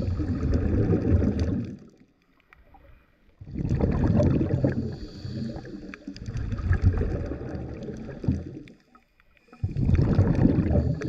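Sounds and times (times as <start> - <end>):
underwater exhaled bubbles gurgling: 0.0 - 11.0.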